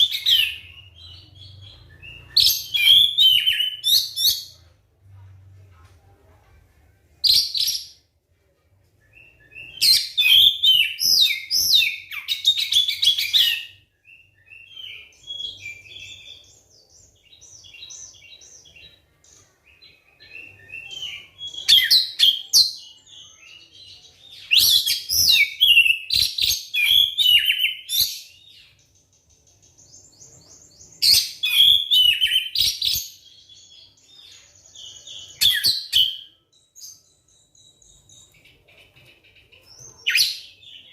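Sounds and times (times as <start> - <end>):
magpie-robin singing: 0.0 - 4.6, 9.0 - 40.9.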